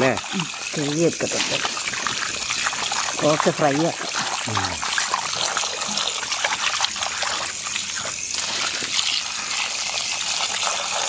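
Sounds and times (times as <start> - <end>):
water pouring into a pot: 0.0 - 11.0.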